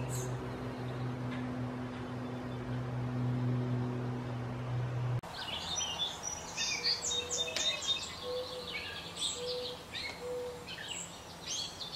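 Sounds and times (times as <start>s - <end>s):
birds chirping and trilling: 0.0s - 11.9s.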